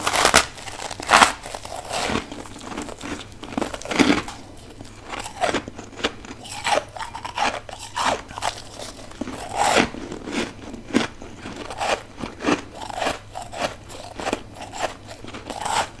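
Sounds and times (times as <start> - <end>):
person chewing ice: 0.0 - 16.0.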